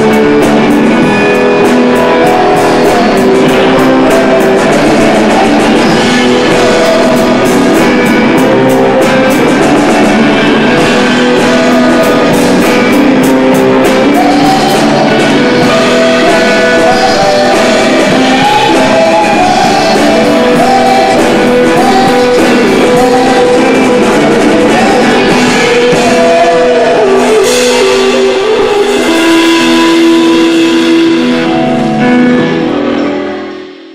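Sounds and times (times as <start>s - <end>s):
person singing: 0.0s - 33.9s
rock band playing: 0.0s - 33.9s.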